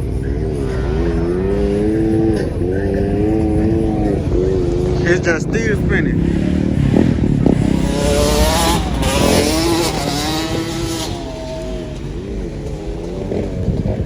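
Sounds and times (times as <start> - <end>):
car engine revving: 0.0 - 14.0
tyre noise: 0.0 - 14.0.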